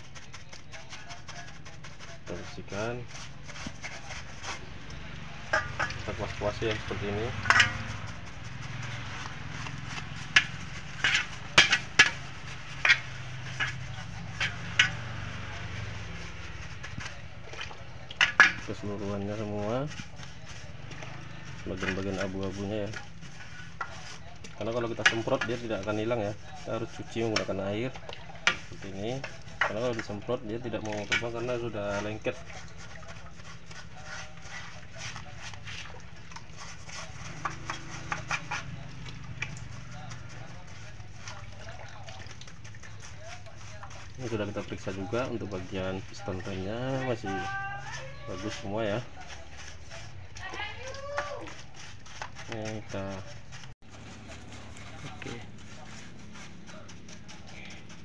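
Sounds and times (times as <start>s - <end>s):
stiff brush scrubbing: 0.0s - 58.0s.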